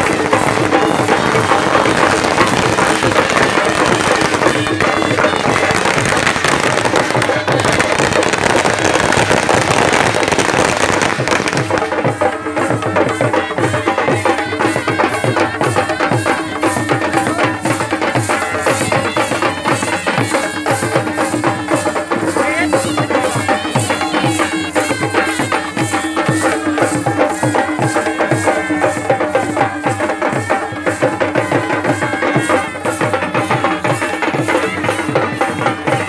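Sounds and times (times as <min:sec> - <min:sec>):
drums beaten with sticks: 0:00.0 - 0:36.0.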